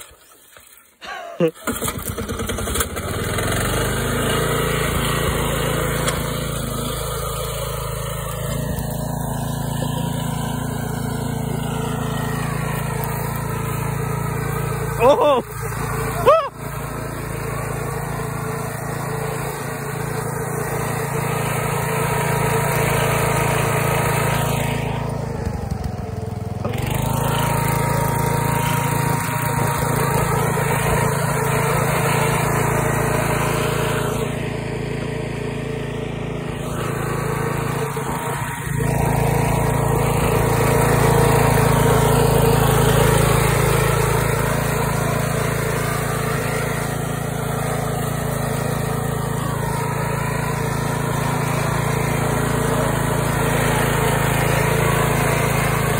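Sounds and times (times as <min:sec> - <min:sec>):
riding mower engine running: 0:00.0 - 0:55.9.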